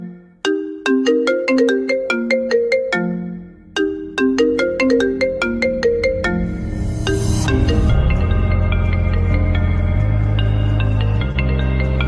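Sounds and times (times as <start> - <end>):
ringtone melody: 0.0 - 12.0.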